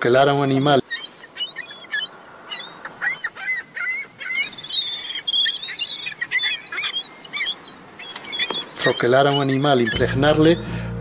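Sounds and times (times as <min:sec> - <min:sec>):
gull chicks cheeping: 0:00.0 - 0:11.0.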